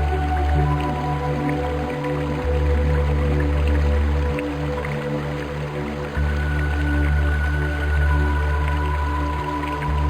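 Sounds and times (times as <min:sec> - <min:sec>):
ambient music with held tones: 0:00.0 - 0:10.0
running water hiss: 0:00.0 - 0:10.0.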